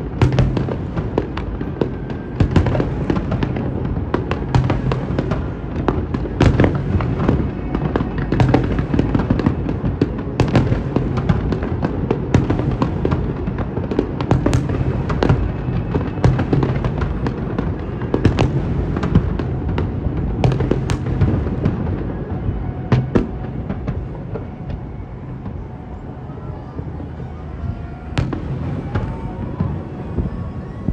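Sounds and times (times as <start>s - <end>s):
fireworks crackling and popping: 0.0s - 30.9s
loud firework reports: 0.0s - 30.9s.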